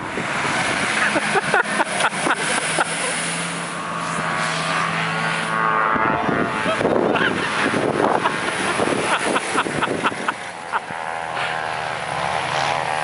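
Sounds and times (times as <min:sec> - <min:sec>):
truck engine working hard: 0:00.0 - 0:13.0.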